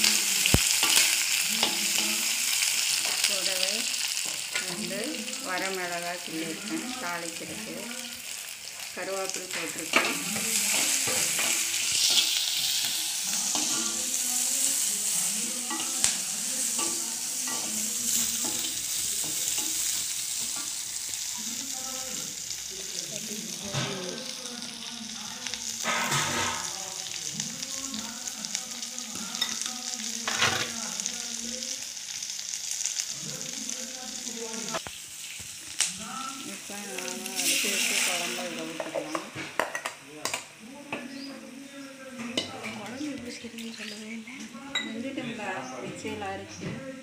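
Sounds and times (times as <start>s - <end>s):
onions sizzling in hot oil: 0.0s - 47.0s.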